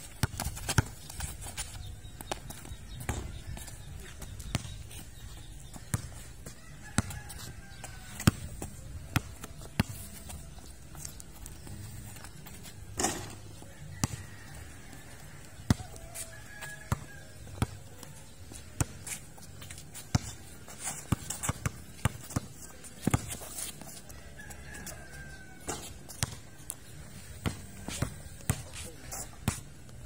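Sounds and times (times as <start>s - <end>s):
basketball bouncing on concrete: 0.0s - 10.6s, 11.4s - 14.6s, 15.5s - 24.0s, 24.8s - 26.4s, 27.4s - 29.7s.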